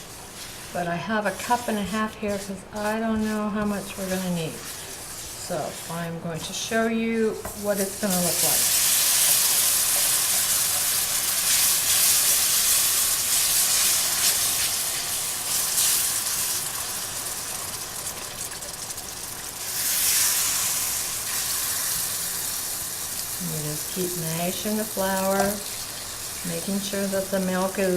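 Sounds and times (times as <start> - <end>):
milk sizzling in a hot pan: 0.0 - 27.9.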